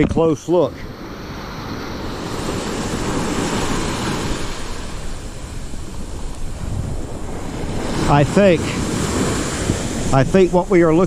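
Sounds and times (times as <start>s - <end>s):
wind buffeting microphone: 0.0s - 11.0s
small surf breaking on sand: 0.9s - 11.0s.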